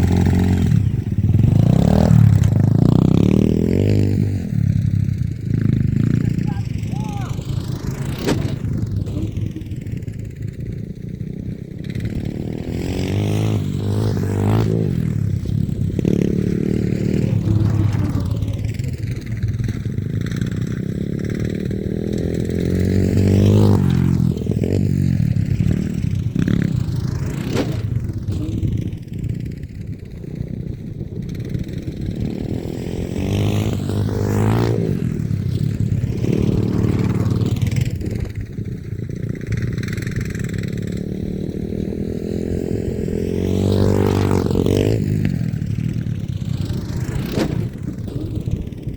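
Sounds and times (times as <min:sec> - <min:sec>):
off-road vehicle engine revving: 0:00.0 - 0:29.3, 0:31.8 - 0:38.4, 0:40.0 - 0:48.9.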